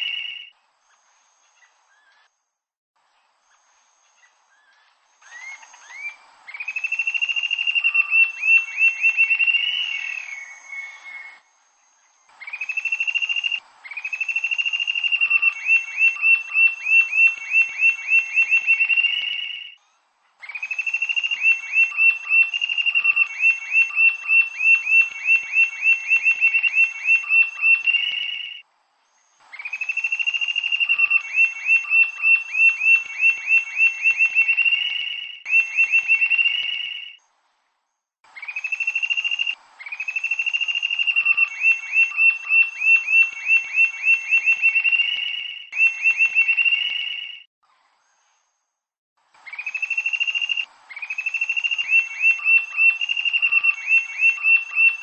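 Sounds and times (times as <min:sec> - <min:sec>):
bird singing whistles and squeals: 0:00.0 - 0:02.3, 0:03.5 - 0:19.8, 0:20.4 - 0:28.6, 0:29.5 - 0:37.2, 0:38.4 - 0:47.5, 0:49.4 - 0:55.0.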